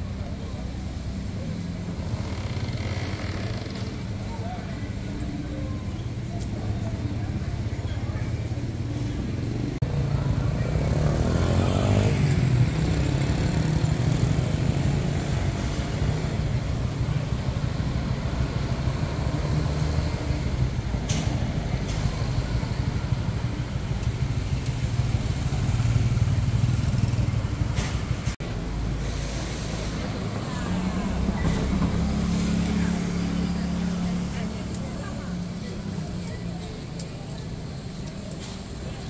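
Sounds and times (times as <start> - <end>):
car and motorcycle engines: 0.0 - 39.0.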